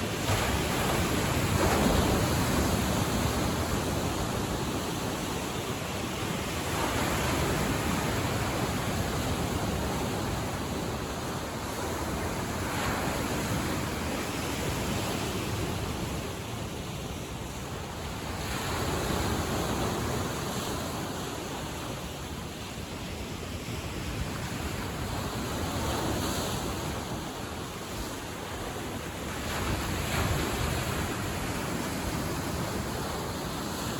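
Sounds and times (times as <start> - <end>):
waves washing onto shore: 0.0 - 33.9.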